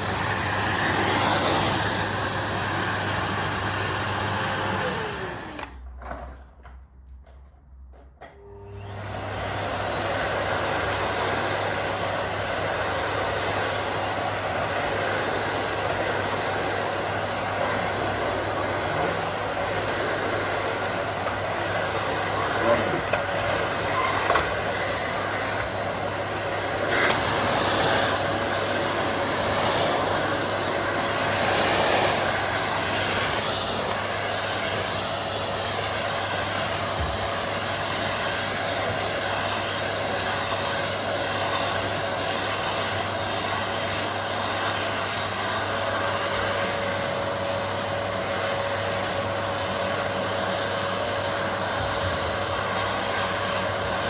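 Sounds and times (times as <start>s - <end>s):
vacuum cleaner running: 0.0s - 6.4s, 8.2s - 54.0s.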